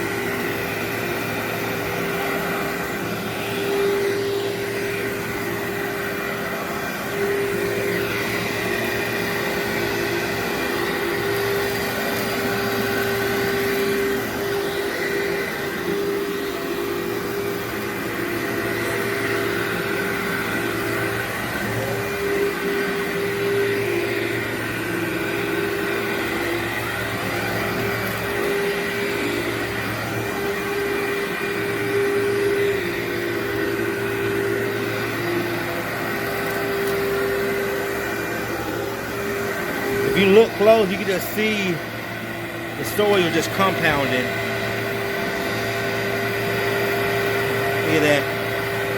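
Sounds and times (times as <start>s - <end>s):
vacuum cleaner on carpet: 0.0s - 48.9s.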